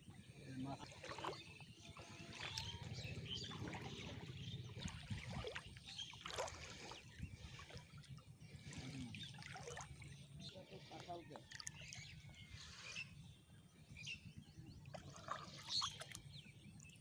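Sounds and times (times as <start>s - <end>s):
water sloshing and splashing: 0.1s - 13.2s, 14.7s - 17.0s.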